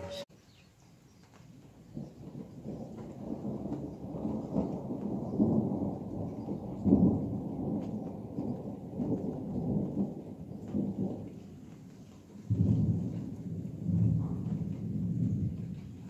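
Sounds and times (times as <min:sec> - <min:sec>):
light rain ticking: 0:00.6 - 0:16.0
rolling thunder: 0:01.6 - 0:16.0.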